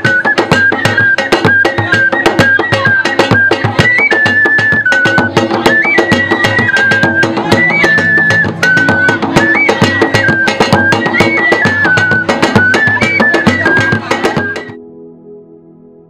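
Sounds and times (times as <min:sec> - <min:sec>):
fast drum and percussion: 0:00.0 - 0:14.8
high repeating melody: 0:00.1 - 0:15.9.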